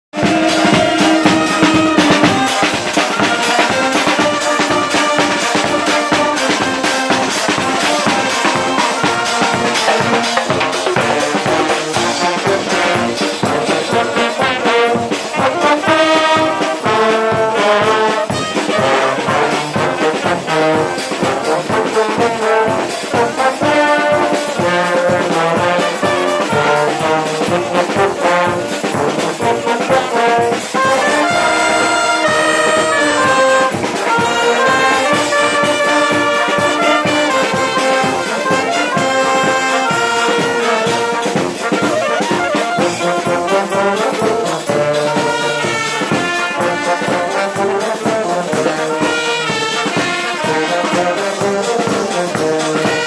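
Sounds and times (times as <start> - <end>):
brass band playing: 0.0 - 53.0
steady drum beat: 0.1 - 53.0.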